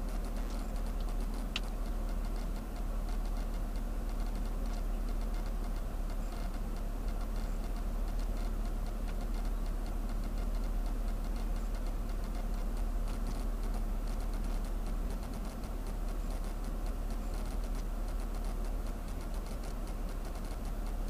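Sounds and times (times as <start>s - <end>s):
car engine idling: 0.0s - 21.0s
fast light ticking: 0.1s - 21.0s.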